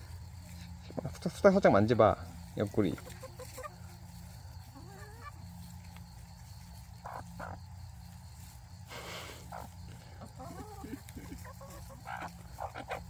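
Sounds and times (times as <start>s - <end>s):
chickens clucking softly: 0.4s - 8.4s, 9.4s - 13.0s.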